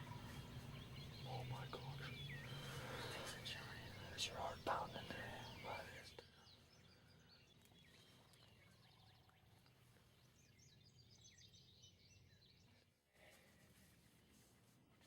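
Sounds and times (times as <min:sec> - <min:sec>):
faint songbirds chirping: 0:00.0 - 0:15.0.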